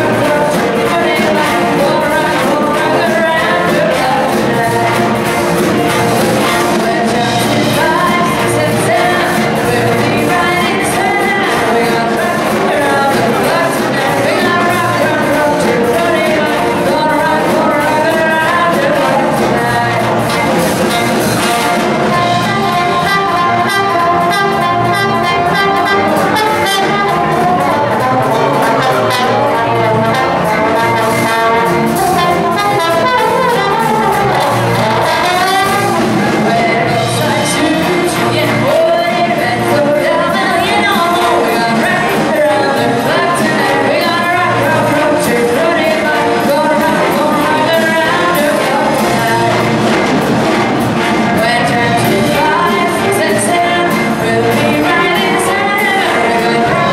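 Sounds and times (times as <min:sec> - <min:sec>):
woman singing: 0:00.0 - 0:50.2, 0:51.0 - 0:56.9
big band playing: 0:00.0 - 0:56.9.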